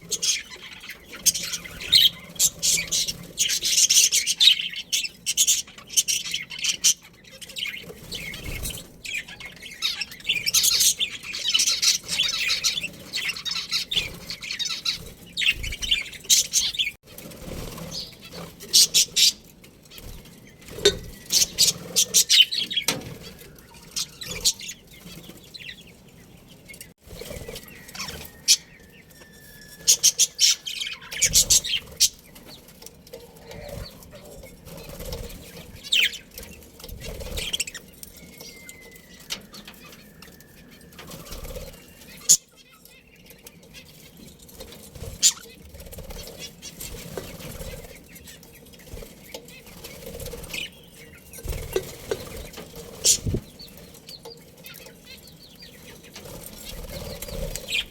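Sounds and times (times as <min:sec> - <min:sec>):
budgerigars chirping: 0:00.0 - 0:17.0, 0:17.7 - 0:44.0, 0:44.6 - 0:57.9
wings fluttering: 0:00.0 - 0:57.9.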